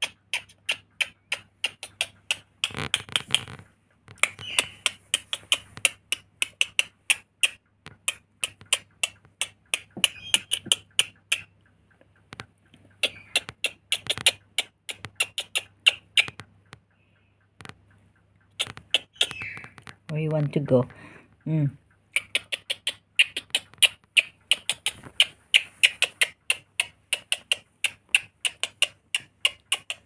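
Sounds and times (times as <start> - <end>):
parrot clicking rapidly: 0.0 - 21.2, 21.8 - 30.0.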